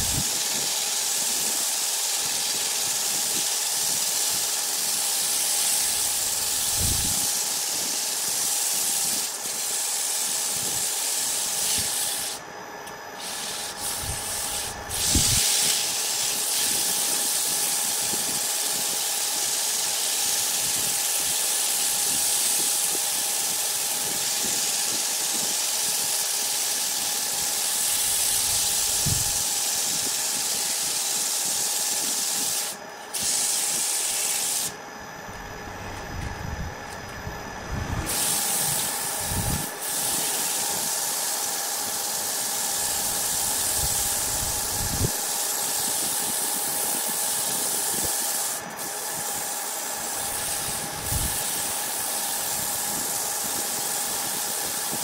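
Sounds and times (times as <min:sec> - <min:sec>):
sandpaper hissing on spinning wood: 0:00.0 - 0:34.8, 0:37.8 - 0:55.0
wood lathe humming: 0:00.0 - 0:55.0.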